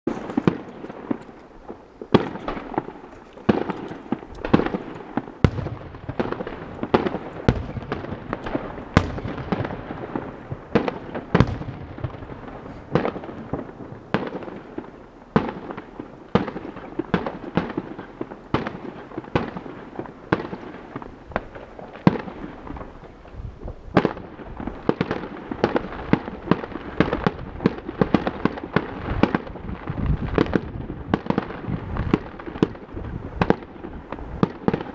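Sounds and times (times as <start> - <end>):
fireworks sharp bangs: 0.1 - 34.9
rumble of distant explosions: 0.1 - 34.9.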